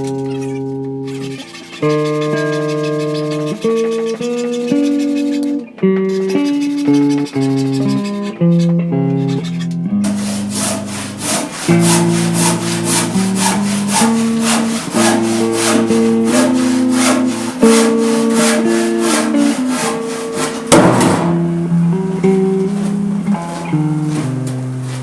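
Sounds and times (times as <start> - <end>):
acoustic guitar music: 0.0 - 25.0
handsaw cutting wood: 1.1 - 25.0.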